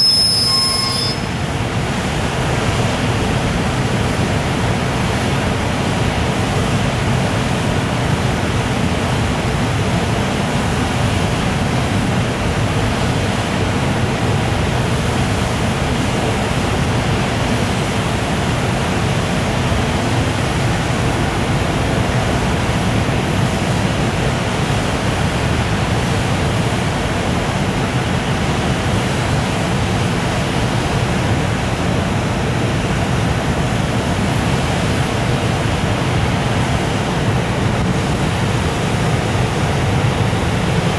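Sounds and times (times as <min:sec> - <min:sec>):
train wheels rushing on rails: 0:00.0 - 0:40.9.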